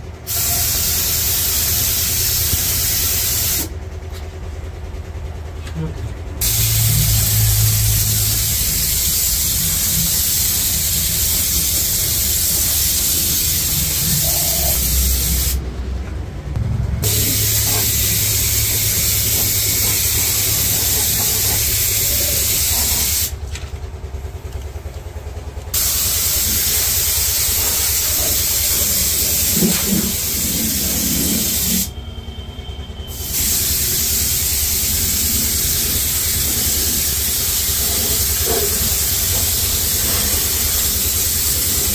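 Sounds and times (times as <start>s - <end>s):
steady low hum: 0.0s - 41.9s
spray gun hissing: 0.3s - 3.7s, 6.4s - 15.6s, 17.0s - 23.3s, 25.7s - 31.9s, 33.1s - 41.9s.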